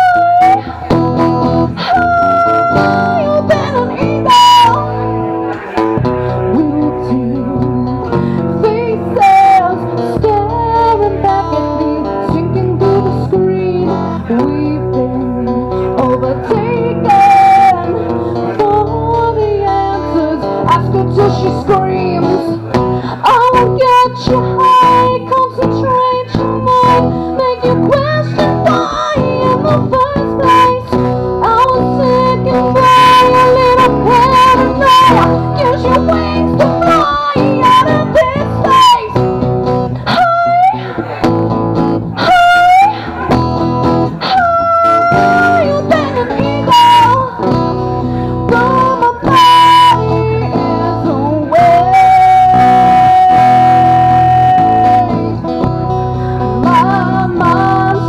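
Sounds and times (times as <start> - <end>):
woman singing: 0.0 - 5.2, 6.0 - 58.0
strummed acoustic guitars: 0.0 - 58.0.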